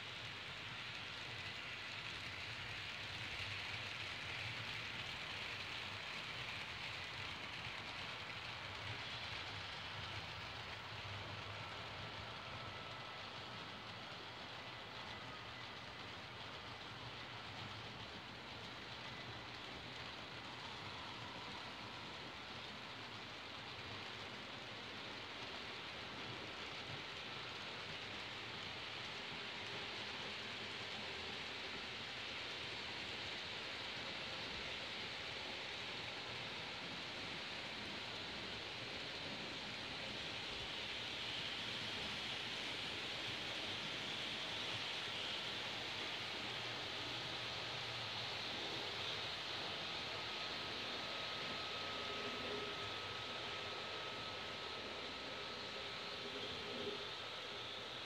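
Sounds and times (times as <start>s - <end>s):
faint thin whine: 0.0s - 58.0s
model trains rolling rumble: 0.0s - 58.0s
steady hiss: 0.0s - 58.0s.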